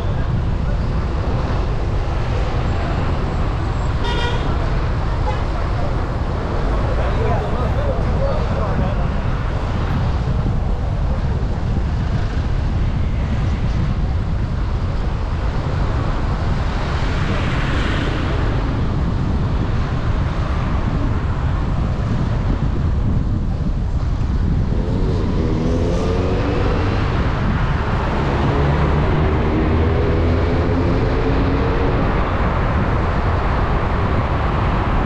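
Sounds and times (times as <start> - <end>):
car engine and tyre rumble: 0.0 - 35.0.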